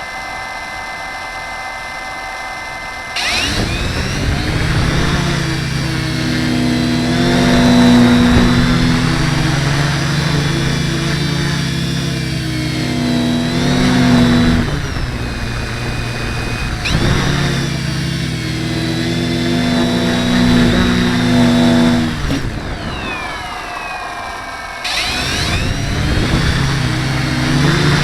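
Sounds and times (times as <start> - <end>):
quadcopter propellers buzzing: 0.0 - 28.0.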